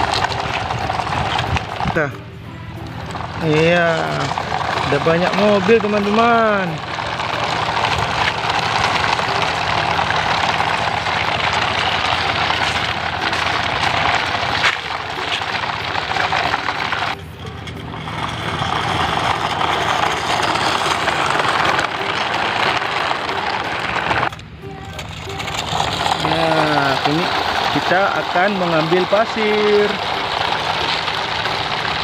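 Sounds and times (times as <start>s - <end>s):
toy truck motor and wheels rolling: 0.0s - 32.0s.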